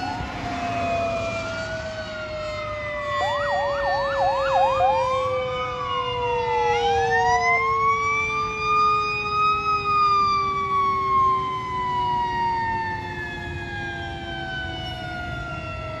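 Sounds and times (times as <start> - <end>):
fire truck siren wailing: 0.0 - 16.0
vehicles rumbling: 0.0 - 16.0.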